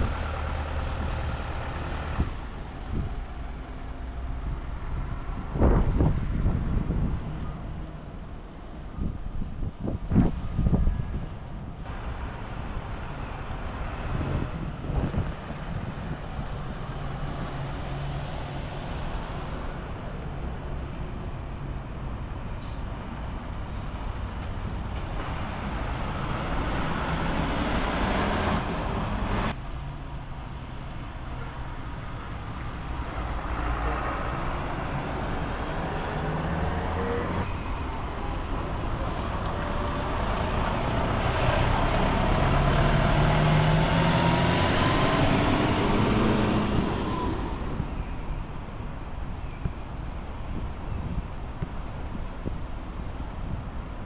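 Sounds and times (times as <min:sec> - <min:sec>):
bus diesel engines rumbling: 0:00.0 - 0:54.0.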